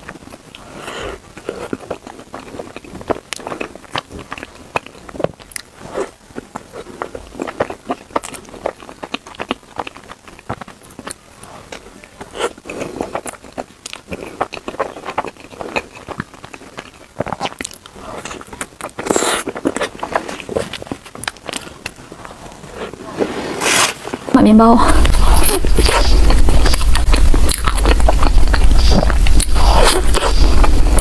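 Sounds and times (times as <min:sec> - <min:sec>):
chewing bread with wet clicks: 0:00.0 - 0:22.0, 0:25.1 - 0:31.0.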